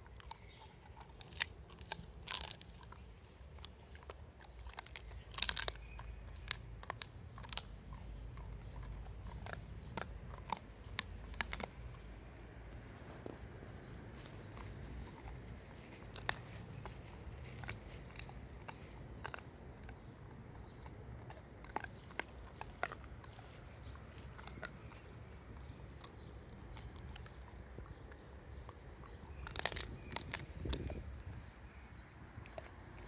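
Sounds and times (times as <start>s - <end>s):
dog crunching on a snack: 0.0s - 33.0s.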